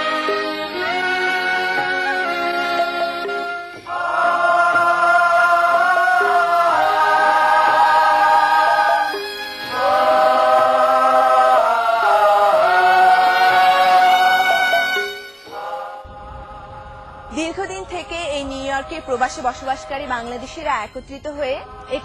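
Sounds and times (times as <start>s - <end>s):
choir singing held notes: 0.0s - 20.7s, 21.4s - 22.0s.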